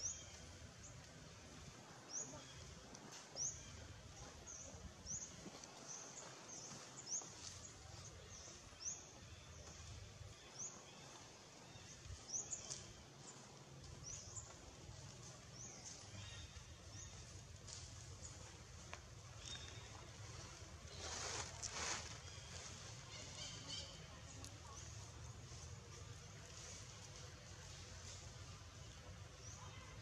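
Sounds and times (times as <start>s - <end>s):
faint low outdoor rumble: 0.0s - 30.0s.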